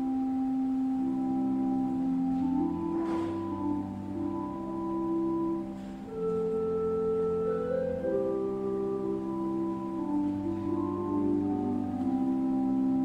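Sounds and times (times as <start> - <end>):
slow keyboard chords: 0.0 - 13.0.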